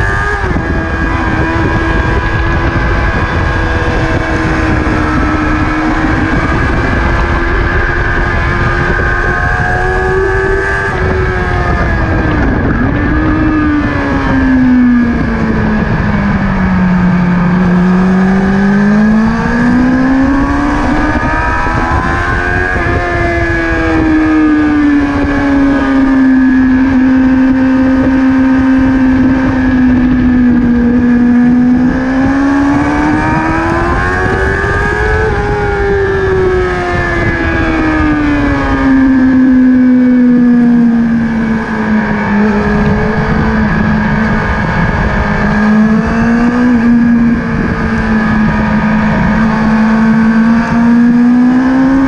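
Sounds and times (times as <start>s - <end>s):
motorcycle engine at high revs: 0.0s - 52.0s
wind buffeting microphone: 0.0s - 52.0s.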